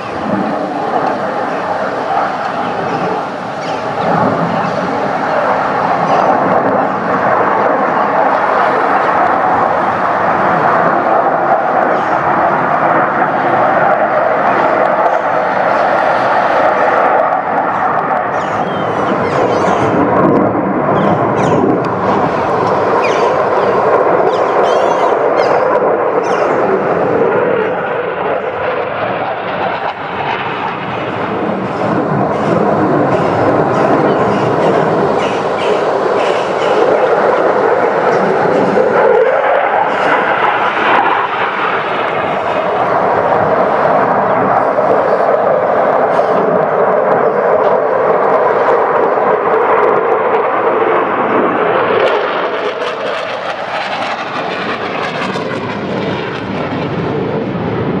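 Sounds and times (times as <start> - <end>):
jet engine passing overhead: 0.0 - 58.0.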